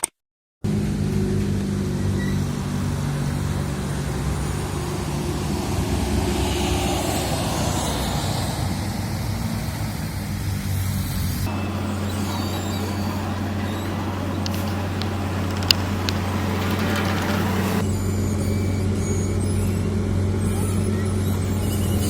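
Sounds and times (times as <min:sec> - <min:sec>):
heavy diesel engines running: 0:00.6 - 0:22.0
low engine hum: 0:00.6 - 0:22.0.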